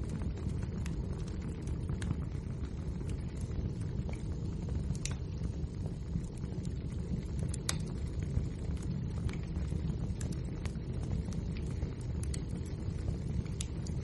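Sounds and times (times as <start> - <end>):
fire crackling and popping: 0.0 - 14.0
fire rumbling: 0.0 - 14.0.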